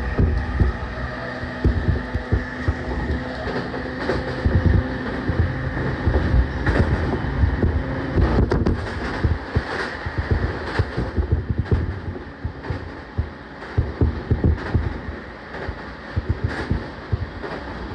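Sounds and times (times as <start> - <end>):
steady motor tone: 0.0 - 17.9
thumps over rail joints: 0.0 - 17.9
train wheels rumbling on rails: 0.0 - 17.9.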